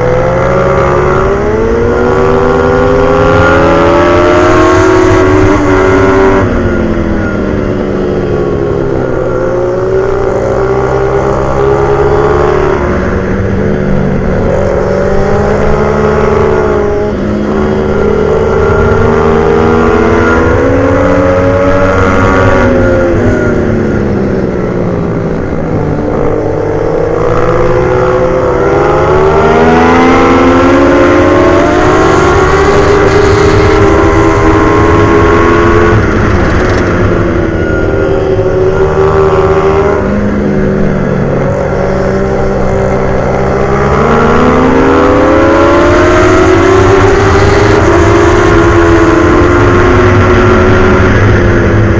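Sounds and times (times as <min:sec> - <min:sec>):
motorbike engine accelerating: 0:00.0 - 0:51.9.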